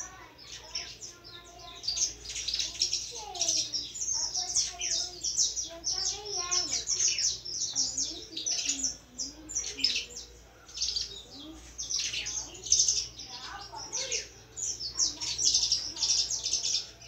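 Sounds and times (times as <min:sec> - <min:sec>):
canary chirping and twittering: 0:00.0 - 0:17.0.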